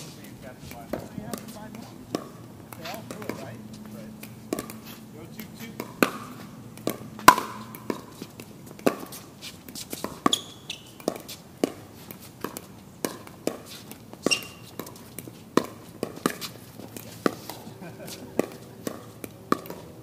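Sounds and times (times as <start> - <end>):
paddles hitting plastic ball: 0.2 - 20.0.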